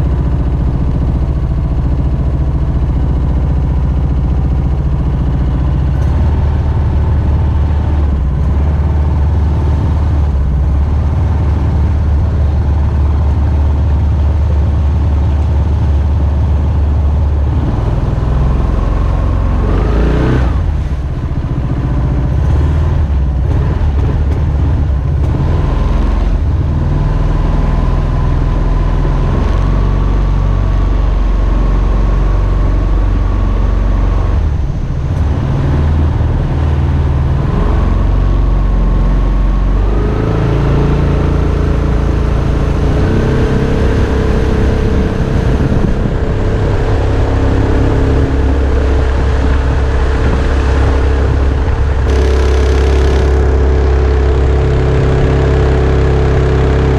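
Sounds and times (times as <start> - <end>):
jet boat engine running: 0.0 - 56.9.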